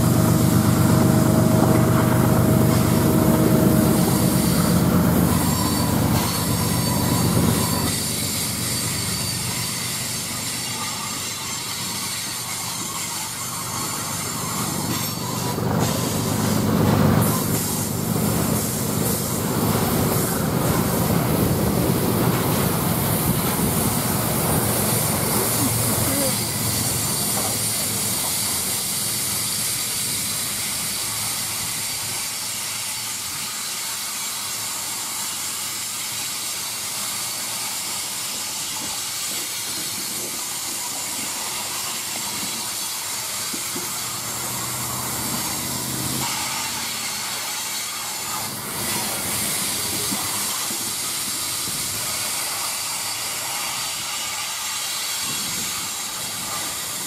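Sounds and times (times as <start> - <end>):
train wheels hissing on rails: 0.0 - 57.0.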